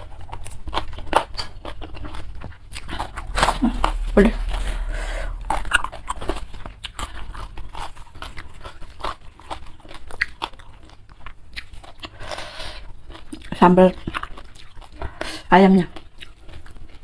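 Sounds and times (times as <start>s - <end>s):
close chewing: 0.0s - 17.0s.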